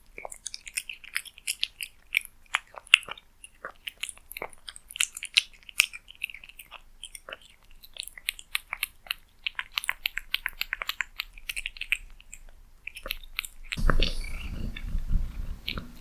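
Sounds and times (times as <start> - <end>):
cat chewing with wet clicks: 0.0 - 16.0.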